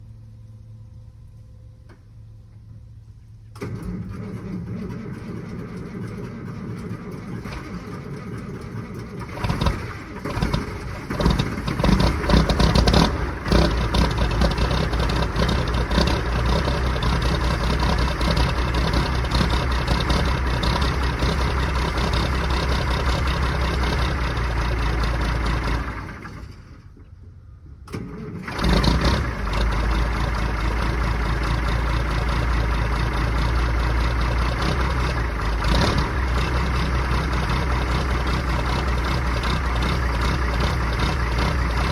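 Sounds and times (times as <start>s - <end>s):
diesel engine idling: 0.0s - 41.9s
truck engine cranking: 3.5s - 41.9s.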